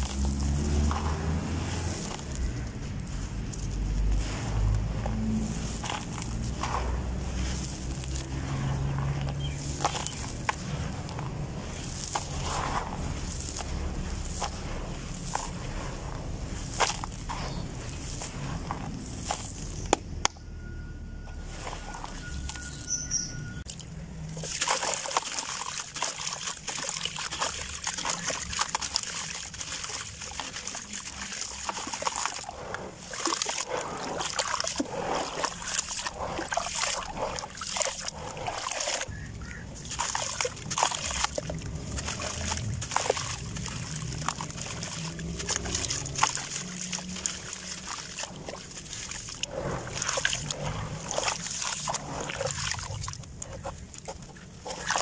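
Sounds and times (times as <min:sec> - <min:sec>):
hands sloshing sand in water: 0:00.0 - 0:20.0, 0:20.7 - 0:22.9, 0:23.7 - 0:55.0
wet grit crackling: 0:00.0 - 0:55.0.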